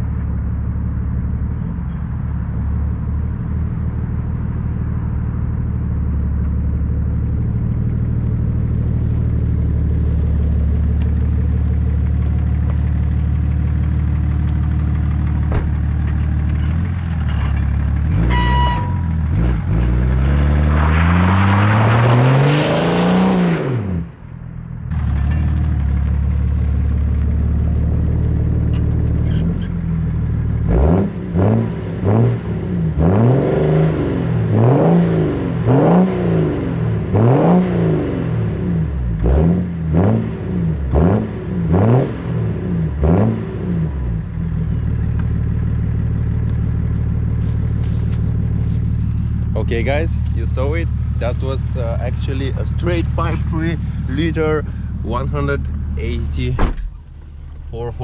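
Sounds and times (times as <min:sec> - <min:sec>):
diesel engine idling and revving: 0:00.0 - 0:58.0.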